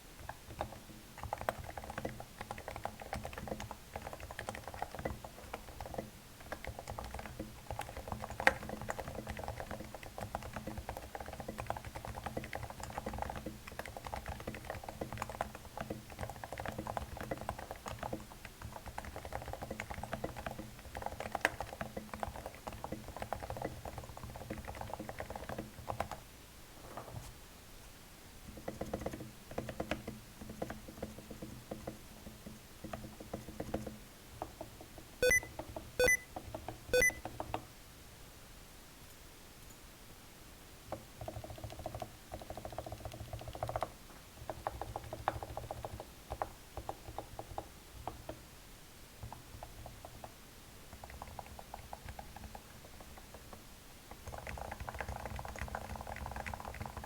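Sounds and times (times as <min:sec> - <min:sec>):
soft keyboard typing: 0:00.2 - 0:26.3, 0:28.5 - 0:37.7, 0:40.9 - 0:48.4, 0:49.2 - 0:57.0.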